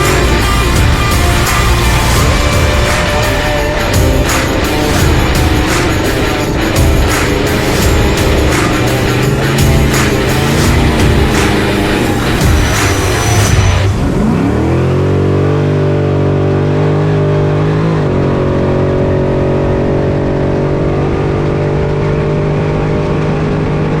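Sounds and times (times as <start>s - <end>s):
truck engine from inside cab: 0.0s - 24.0s.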